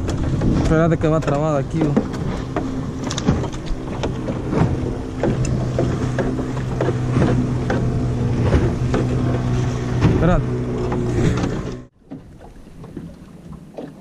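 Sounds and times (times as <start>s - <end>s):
boat motor idling: 0.0s - 13.4s
net knocking and rustling on hull: 0.0s - 14.0s.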